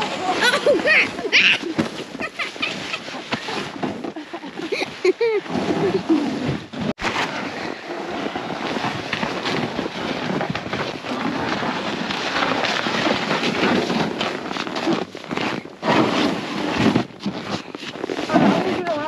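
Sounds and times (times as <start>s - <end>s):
sled scraping over snow: 0.0s - 19.0s.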